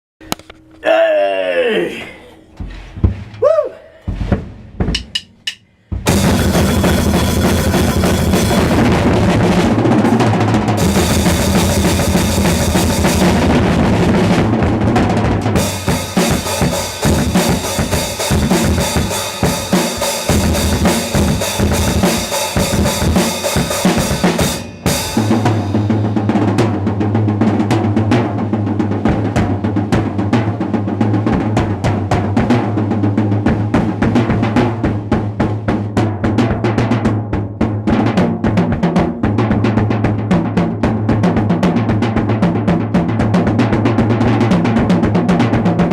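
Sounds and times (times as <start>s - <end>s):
drum kit played fast: 2.7s - 45.9s.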